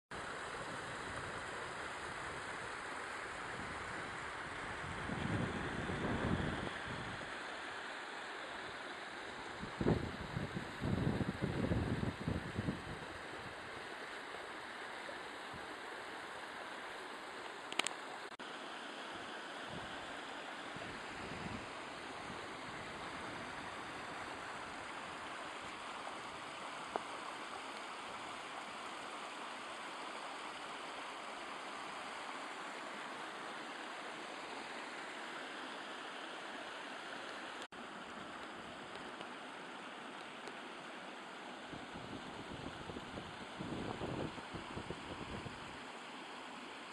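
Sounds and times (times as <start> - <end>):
stream rushing over rocks: 0.1 - 46.9.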